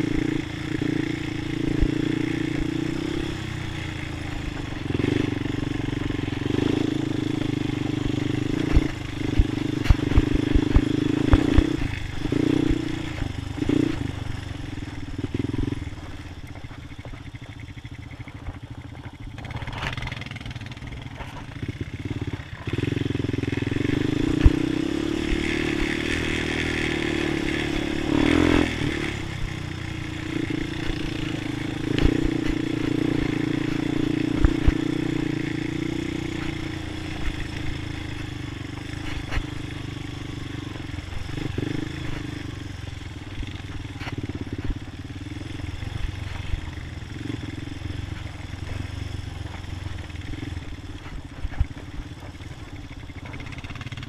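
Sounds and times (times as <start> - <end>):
quad engine running: 0.0 - 54.0.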